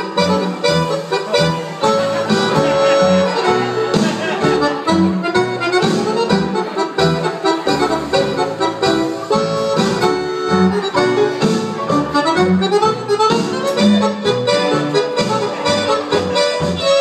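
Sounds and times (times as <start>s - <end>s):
music with reedy melody: 0.0s - 17.0s.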